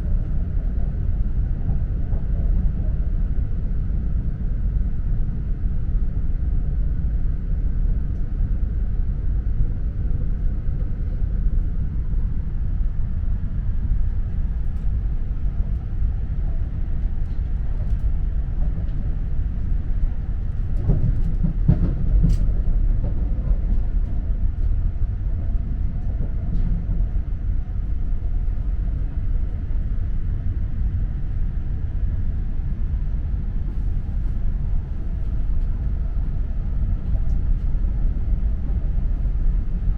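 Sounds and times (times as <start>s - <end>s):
train running gear rumble: 0.0s - 39.9s.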